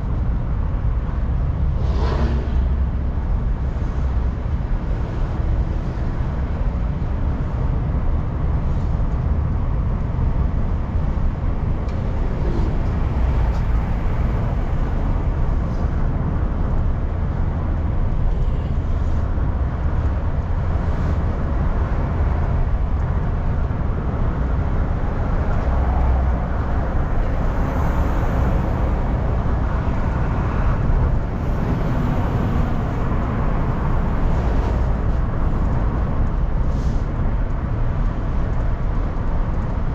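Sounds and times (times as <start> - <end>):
tyre and road rumble: 0.0 - 39.9.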